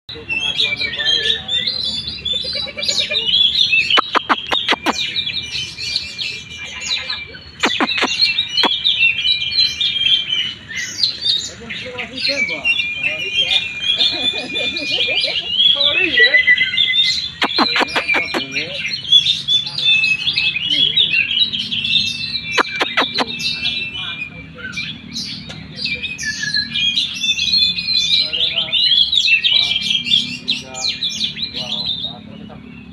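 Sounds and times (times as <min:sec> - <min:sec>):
bird singing chirps and warbles: 0:00.1 - 0:32.9.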